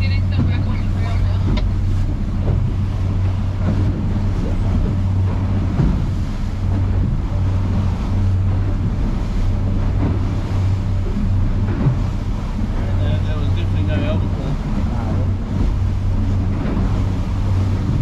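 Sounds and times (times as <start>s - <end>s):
boat engine droning: 0.0s - 18.0s
wind buffeting microphone: 0.0s - 18.0s.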